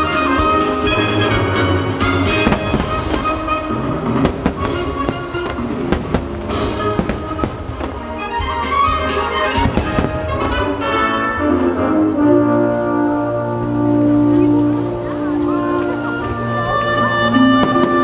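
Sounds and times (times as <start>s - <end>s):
fireworks bangs and crackles: 0.0s - 10.9s, 13.1s - 18.0s
music: 0.0s - 18.0s.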